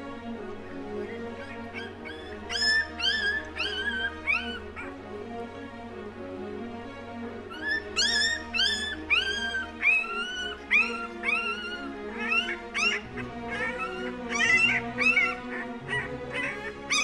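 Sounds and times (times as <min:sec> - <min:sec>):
background music: 0:00.0 - 0:17.0
puppy whining: 0:00.8 - 0:05.0, 0:07.5 - 0:17.0.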